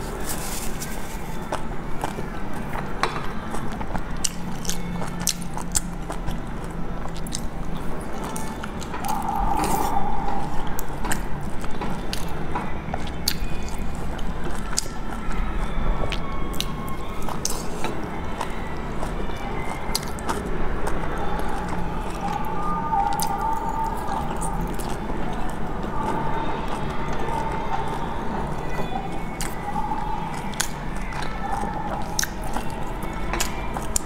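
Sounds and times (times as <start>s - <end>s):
chewing food: 0.0s - 34.0s
steady low hum: 0.0s - 34.0s.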